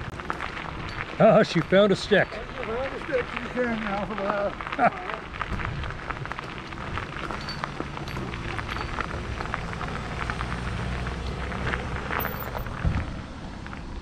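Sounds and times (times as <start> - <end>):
tyres crackling on gravel: 0.0 - 14.0.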